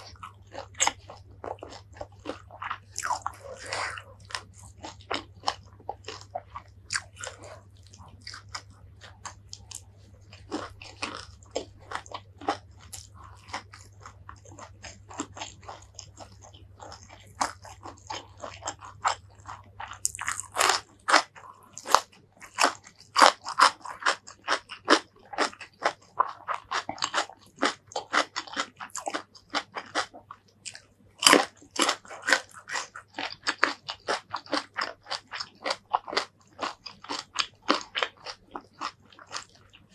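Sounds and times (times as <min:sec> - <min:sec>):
close-miked chewing: 0:00.0 - 0:39.9
cucumber crunching: 0:00.0 - 0:39.9.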